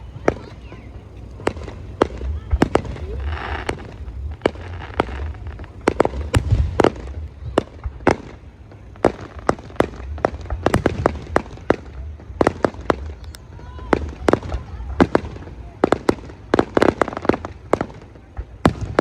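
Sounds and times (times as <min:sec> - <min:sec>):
low rumble: 0:00.0 - 0:15.8
fireworks bursting: 0:00.0 - 0:19.0.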